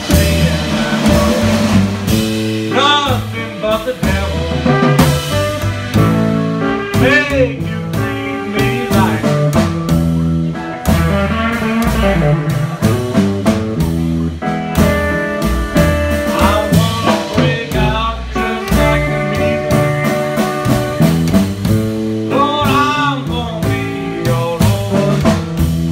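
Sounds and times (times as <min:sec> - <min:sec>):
electric guitar with bent notes: 0:00.0 - 0:25.9
plucked double bass: 0:00.0 - 0:25.9
steady drum beat: 0:00.0 - 0:25.9.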